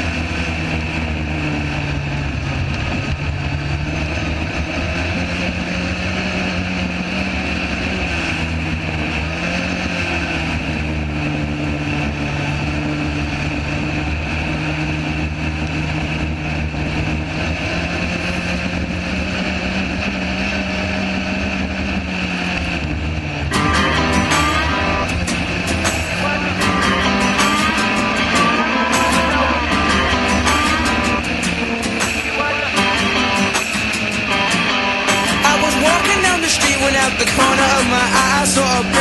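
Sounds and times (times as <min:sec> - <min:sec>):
rushing noise: 0:00.0 - 0:39.0
vehicle engine running: 0:00.0 - 0:39.0.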